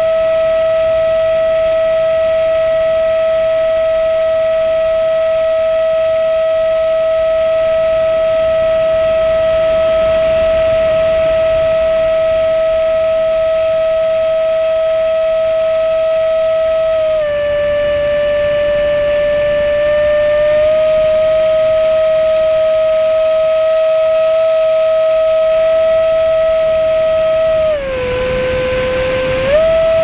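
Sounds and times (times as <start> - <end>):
electric ducted-fan motor whining: 0.0 - 30.0.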